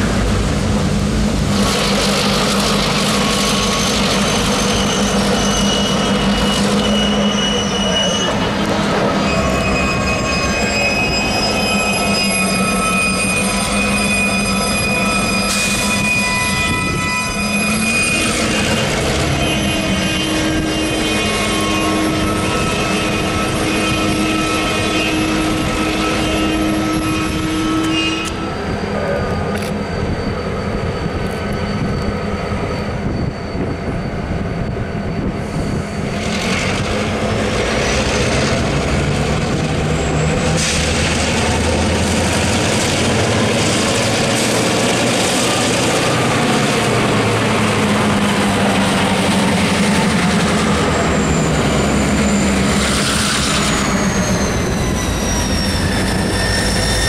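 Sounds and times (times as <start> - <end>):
locomotive engine rumble: 0.0 - 57.0
train rolling on track: 0.0 - 57.0
high whining tones: 1.7 - 57.0.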